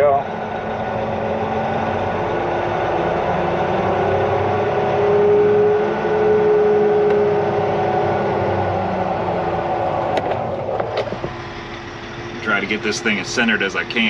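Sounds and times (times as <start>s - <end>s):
dump truck diesel engine: 0.0s - 14.0s
engine whine: 0.0s - 14.0s.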